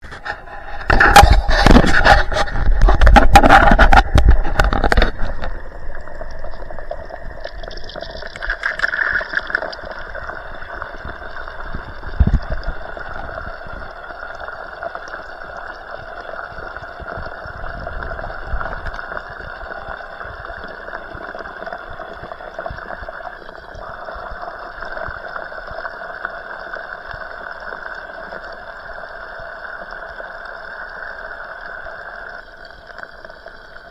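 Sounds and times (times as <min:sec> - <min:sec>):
water rushing through a leak: 0:00.0 - 0:33.9.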